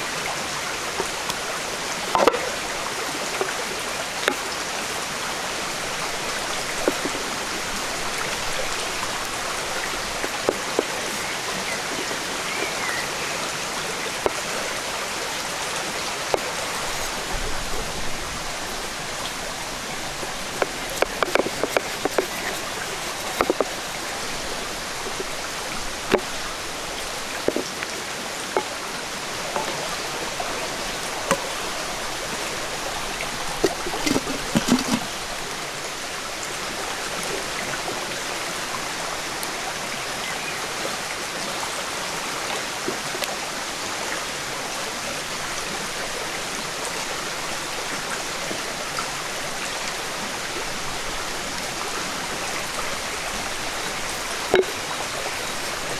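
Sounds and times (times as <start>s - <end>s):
running water hiss: 0.0s - 55.9s.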